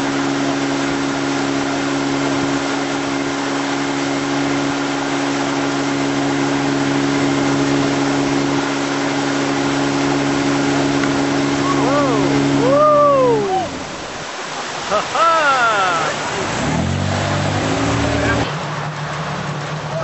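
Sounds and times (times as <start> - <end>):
boat engine running: 0.0 - 20.0
rushing water: 0.0 - 20.0
wind: 0.0 - 20.0.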